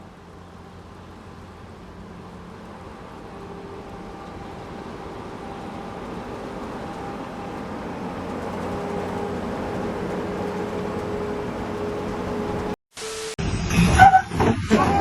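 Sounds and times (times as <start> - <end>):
engine noise: 0.0 - 13.8.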